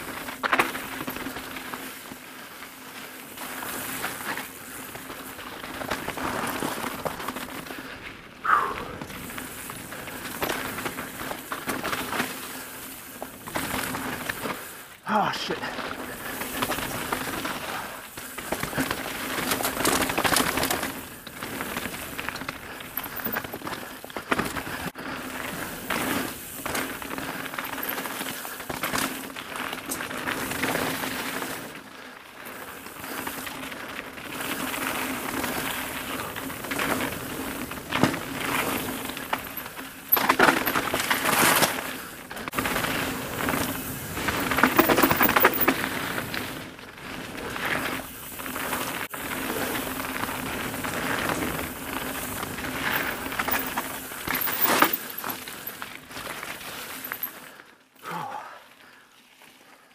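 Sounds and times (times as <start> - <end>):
tyres crunching over stones: 0.0 - 57.6
bike rattling over bumps: 0.0 - 59.6.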